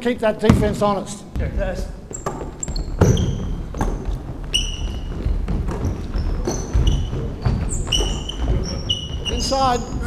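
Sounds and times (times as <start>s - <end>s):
ball dribbling thuds: 0.4s - 10.0s
footfalls: 0.5s - 10.0s
shoes squeaking on hardwood: 0.5s - 10.0s.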